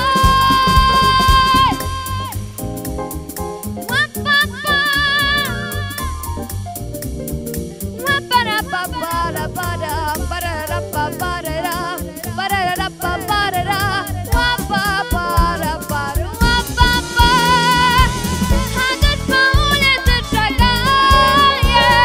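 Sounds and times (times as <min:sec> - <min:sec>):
girl singing into microphone: 0:00.0 - 0:02.4, 0:03.9 - 0:06.3, 0:08.0 - 0:22.0
instrumental accompaniment: 0:00.0 - 0:22.0
steady drum beat: 0:00.0 - 0:22.0.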